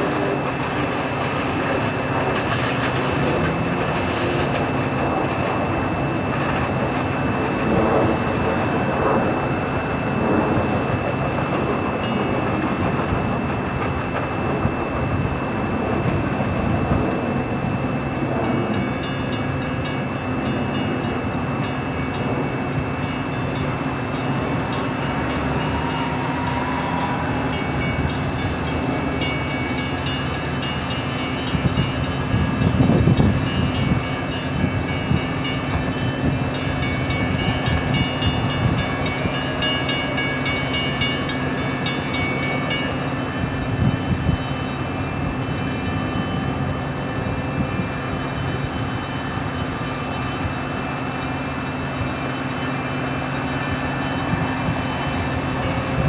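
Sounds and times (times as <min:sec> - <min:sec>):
crossing bells ringing: 0:00.0 - 0:07.6, 0:08.2 - 0:56.0
train passing: 0:00.0 - 0:56.0.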